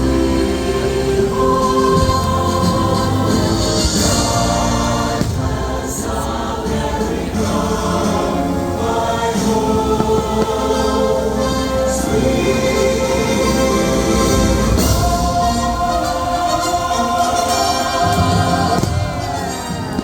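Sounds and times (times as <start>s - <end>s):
choir singing with instruments: 0.0s - 20.0s.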